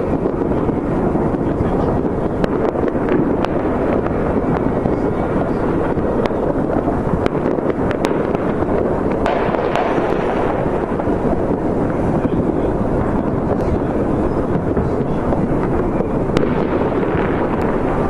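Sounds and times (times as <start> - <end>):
rumble of distant fireworks: 0.0 - 18.0
sharp firecracker cracks: 0.0 - 18.0.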